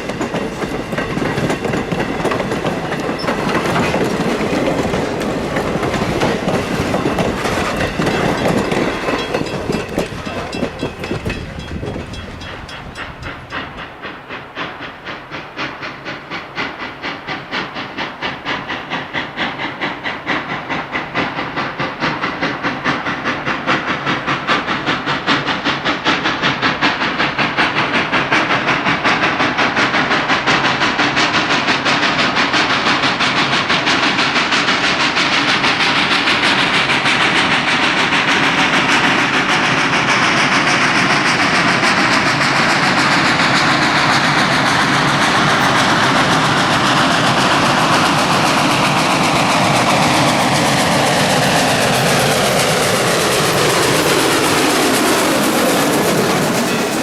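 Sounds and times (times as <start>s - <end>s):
steam locomotive exhaust chuffs: 0.0s - 57.0s.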